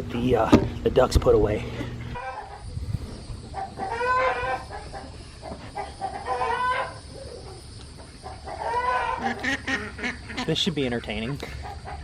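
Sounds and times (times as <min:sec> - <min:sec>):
chickens calling: 0:01.8 - 0:12.0.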